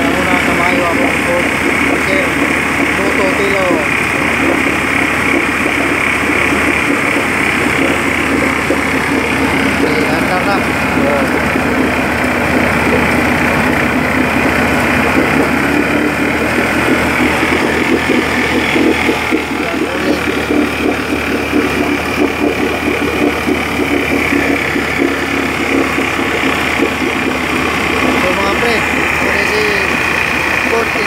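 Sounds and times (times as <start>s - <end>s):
outboard motor running: 0.0s - 31.0s
propeller churning water: 0.0s - 31.0s.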